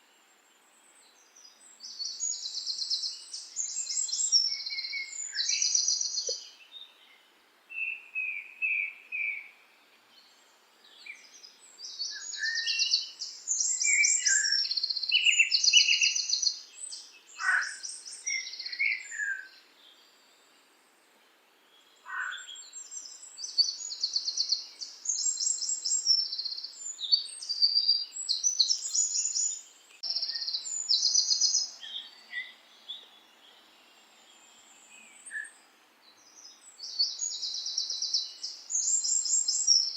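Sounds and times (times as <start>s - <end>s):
songbirds trilling and whistling: 0.9s - 20.5s, 21.7s - 39.9s.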